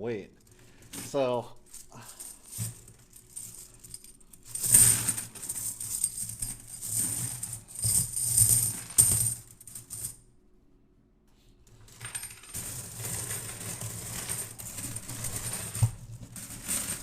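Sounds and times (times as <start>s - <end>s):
coins clinking and jangling: 0.8s - 10.2s, 11.9s - 17.0s.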